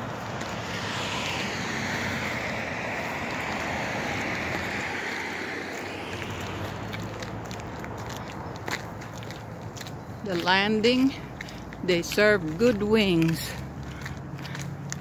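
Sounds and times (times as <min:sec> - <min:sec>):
footsteps on paved path: 0:00.0 - 0:15.0
vehicle tyre noise passing: 0:00.0 - 0:15.0.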